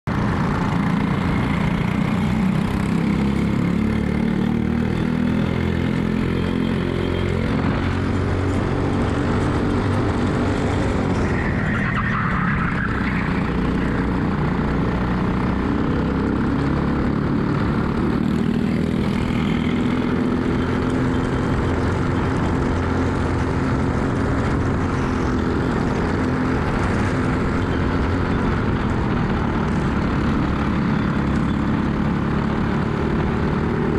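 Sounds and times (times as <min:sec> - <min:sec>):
racing kart engine revving: 0:00.2 - 0:33.9.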